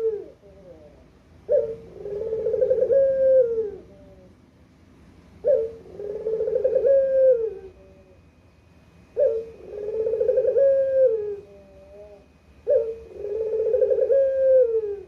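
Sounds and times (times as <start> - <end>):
dove cooing: 0.0 - 4.4, 5.4 - 8.3, 9.0 - 15.0.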